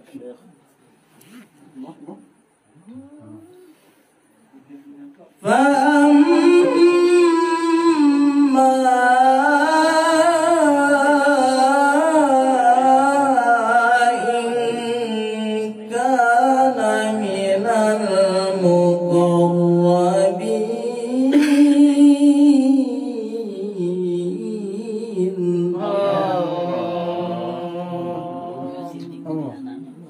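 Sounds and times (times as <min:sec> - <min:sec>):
man reciting melodically: 0:05.3 - 0:30.0.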